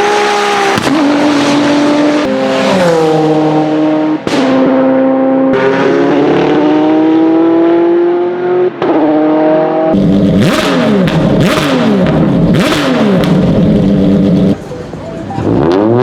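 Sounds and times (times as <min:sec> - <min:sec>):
car engines revving hard: 0:00.0 - 0:16.0.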